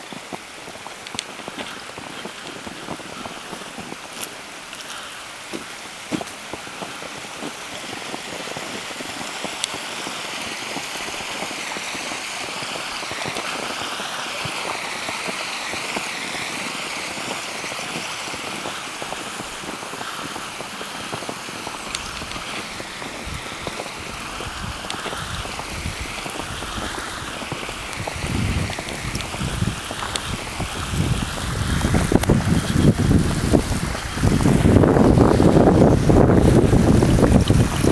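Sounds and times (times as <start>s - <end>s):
snowstorm wind hissing: 0.0s - 37.9s
wind buffeting microphone: 0.0s - 37.9s.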